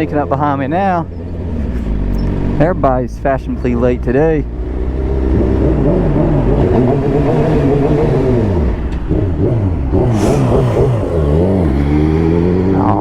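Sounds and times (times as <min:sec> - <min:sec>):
motorcycle engine revving: 0:01.0 - 0:13.0.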